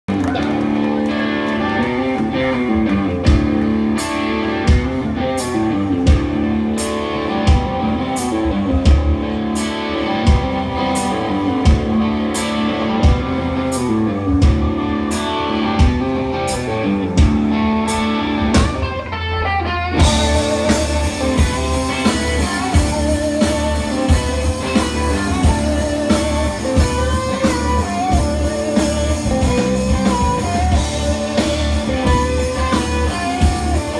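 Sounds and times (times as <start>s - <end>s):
electric guitars with bent notes: 0.1s - 33.9s
rock drums: 0.1s - 33.9s.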